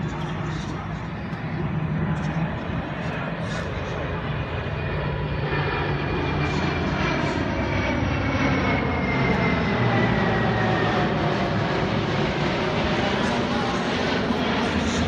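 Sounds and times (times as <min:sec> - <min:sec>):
jet engines flyover: 0:00.0 - 0:15.0.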